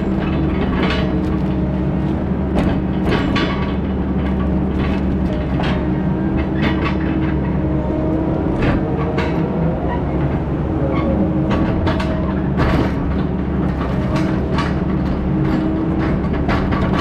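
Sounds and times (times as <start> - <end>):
metallic clanks and rattles: 0.0 - 7.8, 8.5 - 9.6, 10.2 - 17.0
diesel engine droning: 0.0 - 17.0.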